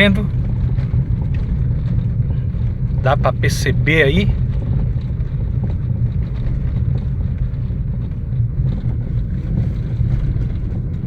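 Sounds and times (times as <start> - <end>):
tyres rumbling over cobblestones: 0.0 - 11.0.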